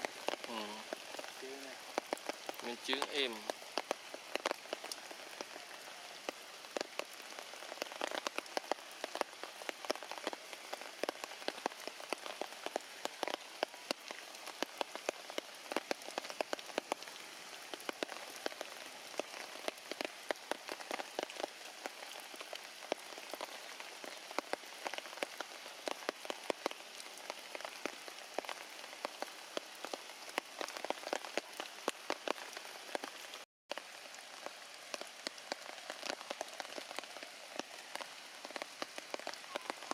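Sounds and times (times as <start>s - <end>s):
drops and drips striking: 0.0s - 39.9s
heavy rain hissing: 0.0s - 39.9s.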